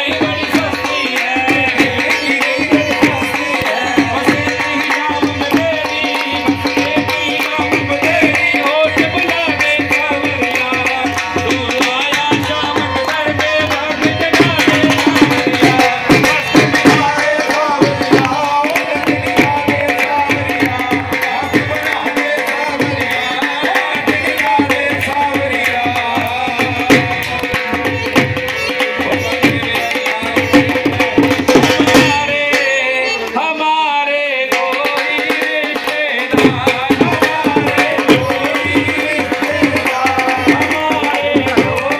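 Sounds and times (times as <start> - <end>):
hand drum rhythm: 0.0 - 33.4, 34.5 - 41.9.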